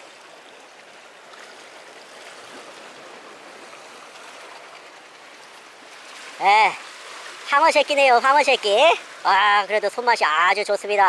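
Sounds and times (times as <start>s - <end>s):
sea water washing among concrete: 0.0s - 11.0s.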